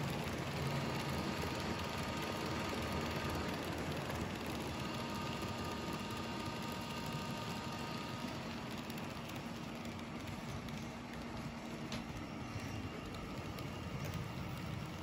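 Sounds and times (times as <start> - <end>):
faint whine: 0.0 - 15.0
model train cars rolling on track: 0.0 - 15.0.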